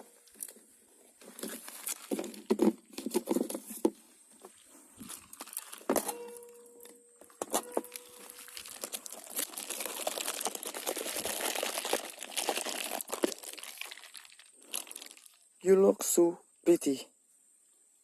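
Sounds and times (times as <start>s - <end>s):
crinkling rustling handling noise: 0.0s - 6.2s, 7.2s - 15.5s.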